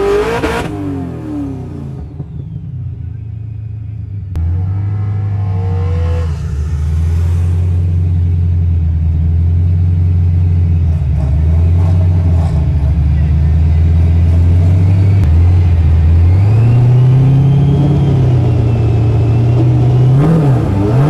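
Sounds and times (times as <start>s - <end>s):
car engine at low revs: 0.0s - 21.0s.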